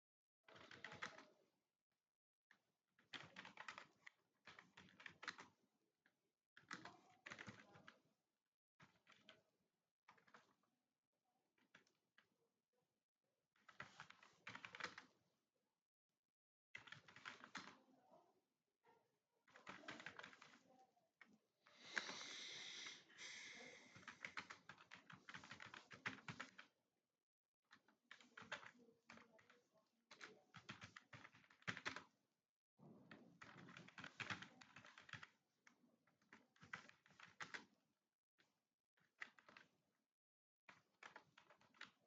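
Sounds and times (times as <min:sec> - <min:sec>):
faint rapid keyboard typing: 0:00.5 - 0:01.5, 0:02.5 - 0:08.2, 0:08.8 - 0:10.8, 0:11.4 - 0:12.4, 0:13.6 - 0:15.3, 0:16.8 - 0:26.8, 0:27.7 - 0:32.2, 0:32.8 - 0:40.1, 0:40.7 - 0:42.0.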